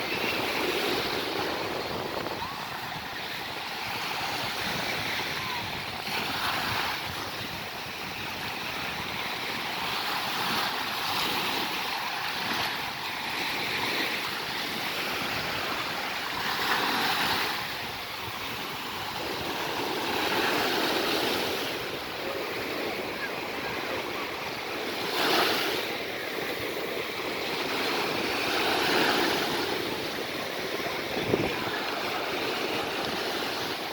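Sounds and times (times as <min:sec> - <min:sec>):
sea waves breaking on shore: 0:00.0 - 0:33.9
wind on microphone: 0:00.0 - 0:33.9.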